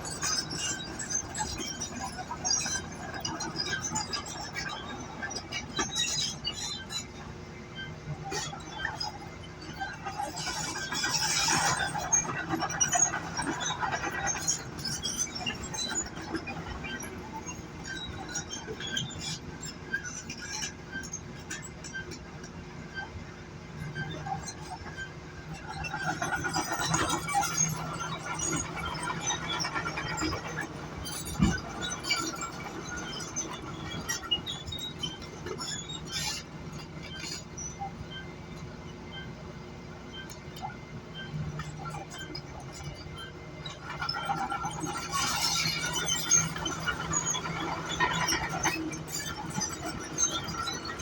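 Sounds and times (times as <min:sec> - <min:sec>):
bulldozer engine hum: 0:00.0 - 0:51.0
metallic clinks and squeaks of tracks: 0:00.0 - 0:51.0.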